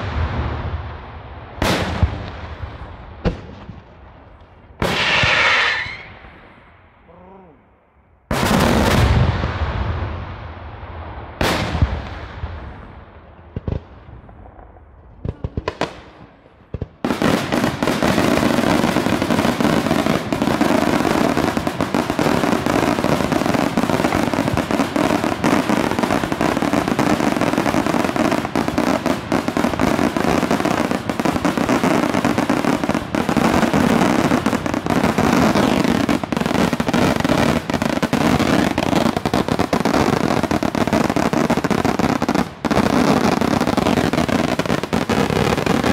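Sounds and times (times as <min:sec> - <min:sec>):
fireworks bangs: 0:00.0 - 0:07.0, 0:08.3 - 0:45.9
firecracker barrage: 0:00.0 - 0:07.5, 0:08.3 - 0:45.9.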